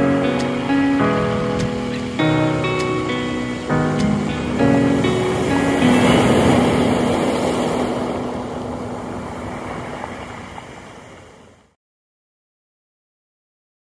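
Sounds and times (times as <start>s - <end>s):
surf breaking on pebble beach: 0.2s - 11.6s.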